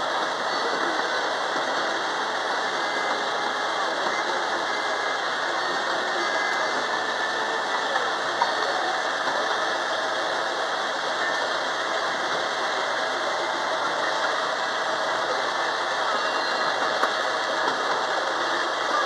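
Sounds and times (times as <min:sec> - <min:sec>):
ride train rattling on track: 0:00.0 - 0:19.0.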